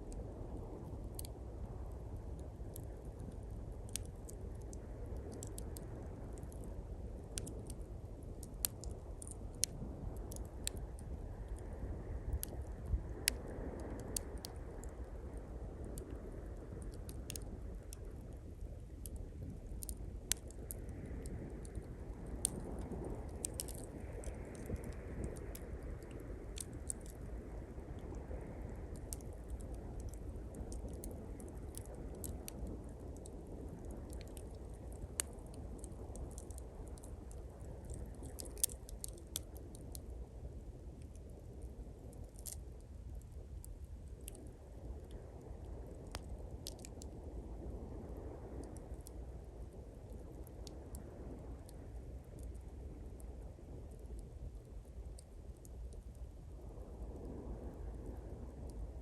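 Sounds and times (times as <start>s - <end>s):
campfire crackling and popping: 0.1s - 56.5s.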